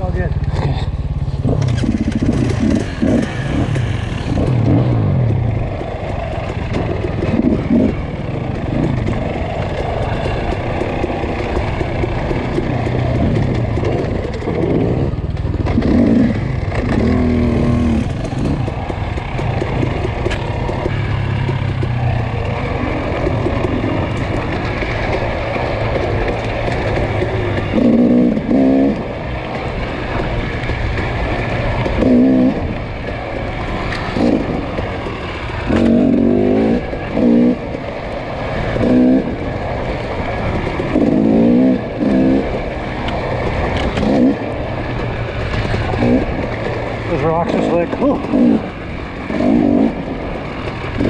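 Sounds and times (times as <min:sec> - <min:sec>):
dirt bike engine revving: 0:00.0 - 0:51.0
wind and riding noise: 0:00.0 - 0:51.0.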